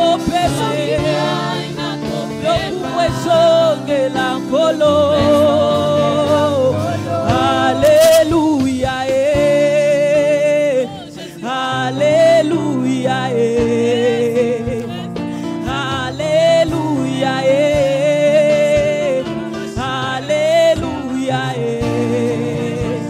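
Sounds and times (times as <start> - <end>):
group singing gospel: 0.0 - 23.0
keyboard and drums: 0.0 - 23.0.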